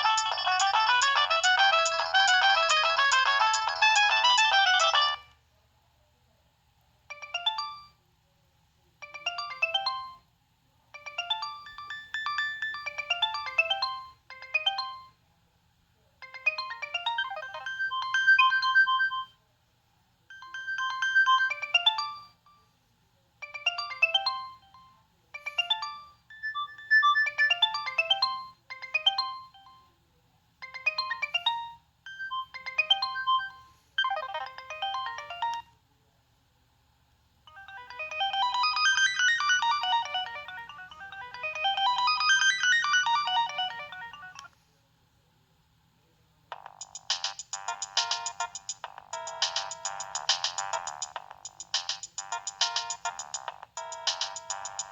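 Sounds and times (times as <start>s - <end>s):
mobile phone ringtone melodies: 0.0s - 5.3s, 7.1s - 8.0s, 9.0s - 10.2s, 11.0s - 15.2s, 16.2s - 19.4s, 20.3s - 22.6s, 23.4s - 29.9s, 30.6s - 35.8s, 37.5s - 44.5s, 46.5s - 54.9s.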